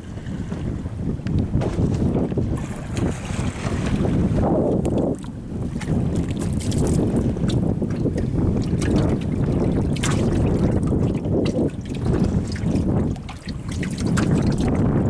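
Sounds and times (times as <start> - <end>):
sea wash: 0.0 - 15.0
wind buffeting microphone: 0.0 - 15.0.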